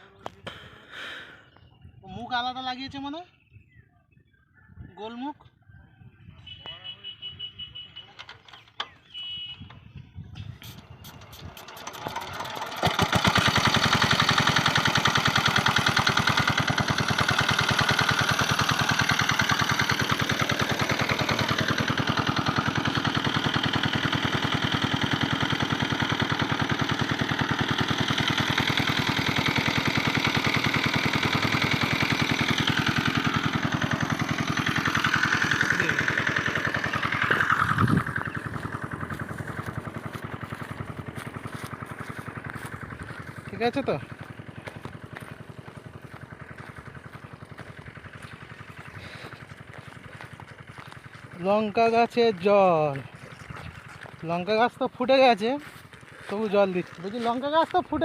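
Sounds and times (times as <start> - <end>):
diesel engine starting and chugging: 0.0 - 3.1, 7.3 - 58.0.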